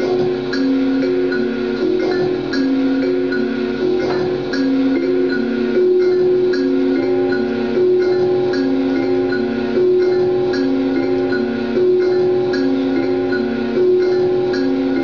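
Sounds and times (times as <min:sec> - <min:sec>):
electronic drone music: 0:00.0 - 0:15.0.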